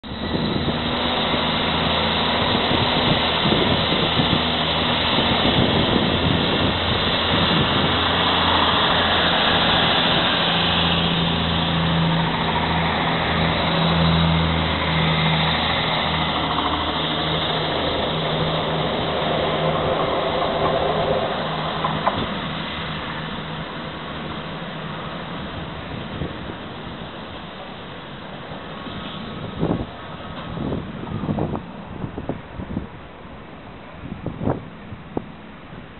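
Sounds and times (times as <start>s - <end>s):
diesel train engines running: 0.0s - 35.9s.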